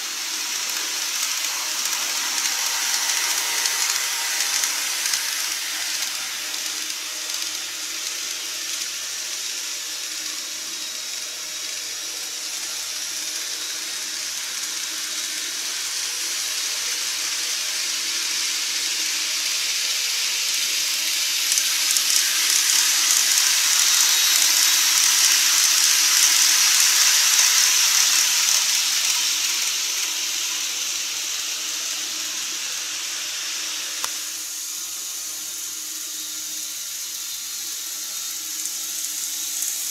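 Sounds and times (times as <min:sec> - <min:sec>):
model train whirring: 0:00.0 - 0:39.9.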